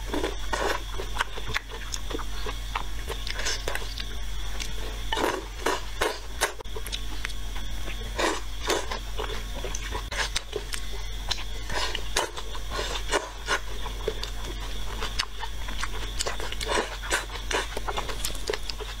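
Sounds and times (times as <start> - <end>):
slurping and chewing noodles: 0.0 - 19.0
steady low hum: 0.0 - 19.0.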